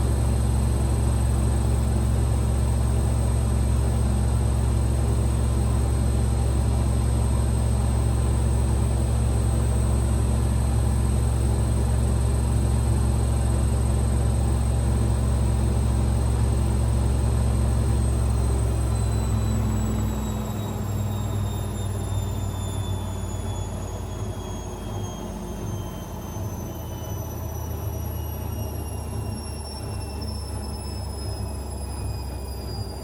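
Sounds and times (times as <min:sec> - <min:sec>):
washing machine spinning: 0:00.0 - 0:33.0.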